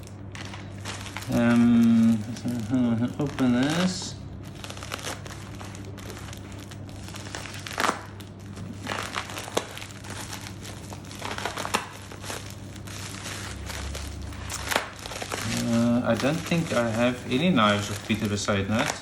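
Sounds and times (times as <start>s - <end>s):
packaging crinkling and tearing: 0.0s - 19.0s
sharp ripping: 0.0s - 19.0s.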